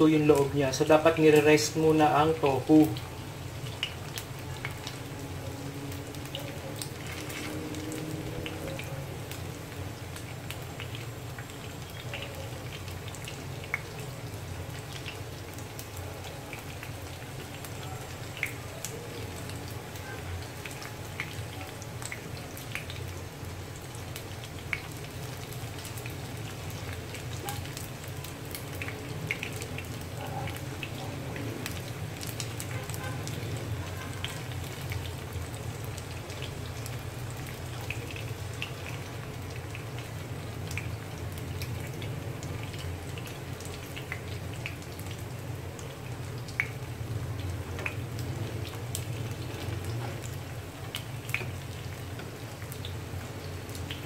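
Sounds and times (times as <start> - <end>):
tofu sizzling in oil: 0.0 - 54.0.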